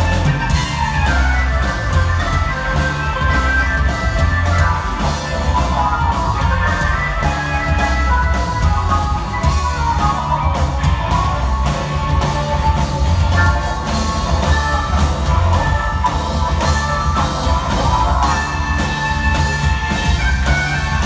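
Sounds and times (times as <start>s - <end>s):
heavy bass: 0.0s - 21.0s
rock band playing live: 0.0s - 21.0s.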